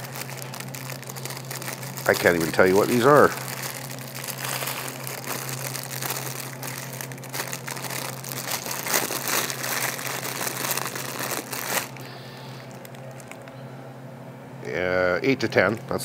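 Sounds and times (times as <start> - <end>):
plastic bag crinkling: 0.0 - 13.5.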